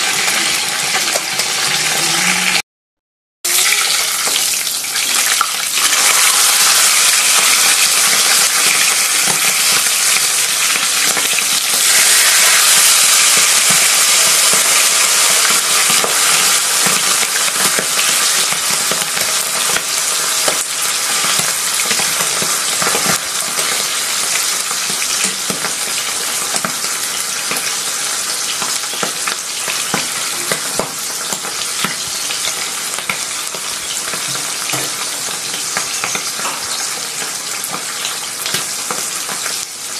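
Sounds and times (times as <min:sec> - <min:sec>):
fish frying in oil: 0:00.0 - 0:02.6, 0:03.5 - 0:39.9.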